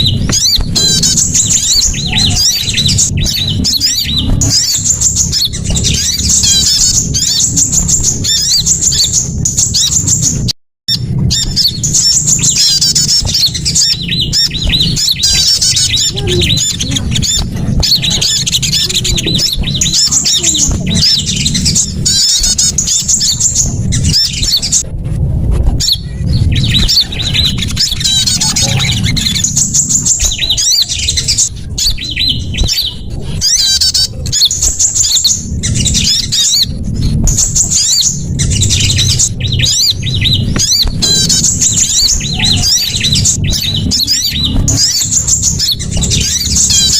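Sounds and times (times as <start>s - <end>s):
songbirds chirping and twittering: 0.0s - 46.9s
steady low rumble: 0.0s - 46.9s.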